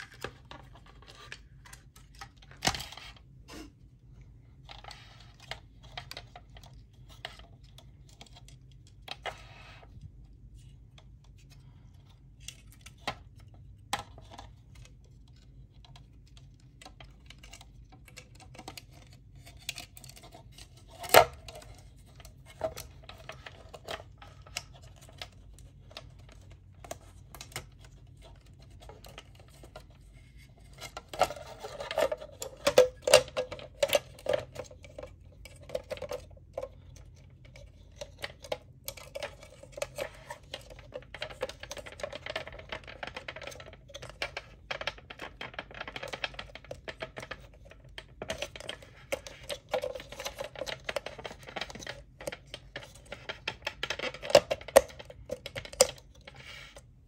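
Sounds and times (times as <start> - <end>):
plastic parts clicking and rattling: 0.0 - 3.4, 4.5 - 57.0.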